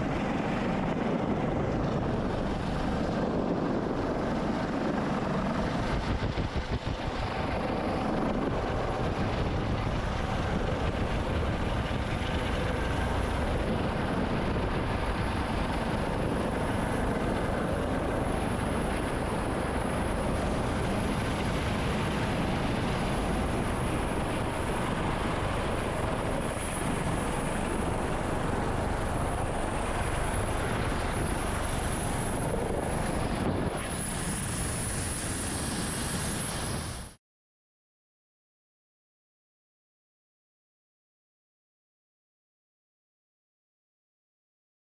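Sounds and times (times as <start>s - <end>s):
helicopter rotor and turbine noise: 0.0s - 37.2s.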